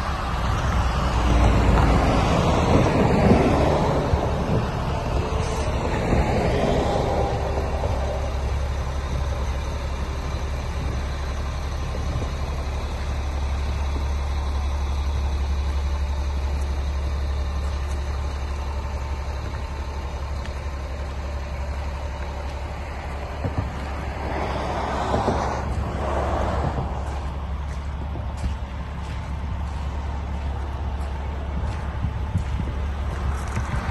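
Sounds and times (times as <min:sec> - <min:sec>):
diesel engine rumble: 0:00.0 - 0:33.9.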